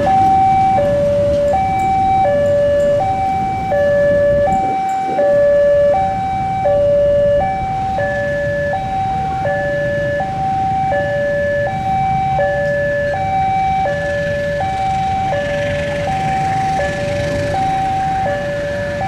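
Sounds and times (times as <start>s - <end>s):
diesel locomotive engine rumble: 0.0s - 19.0s
level crossing two-tone alarm: 0.0s - 19.0s.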